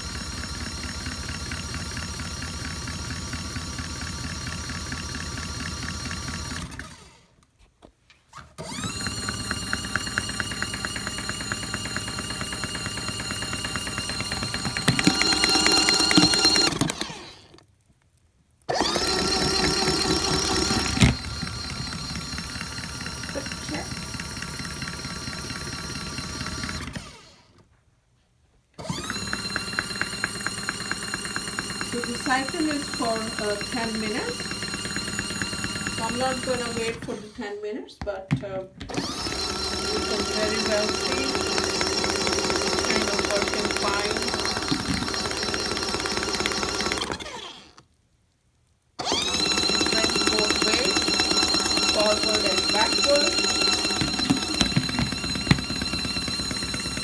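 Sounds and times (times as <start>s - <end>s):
washing machine motor humming: 0.0s - 7.2s, 8.6s - 17.6s, 18.7s - 27.3s, 28.8s - 37.6s, 38.8s - 47.8s, 49.0s - 57.0s.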